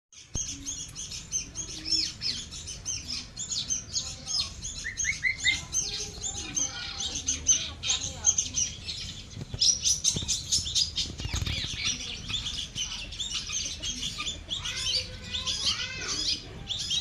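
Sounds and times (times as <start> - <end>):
nestling birds chirping: 0.1 - 17.0.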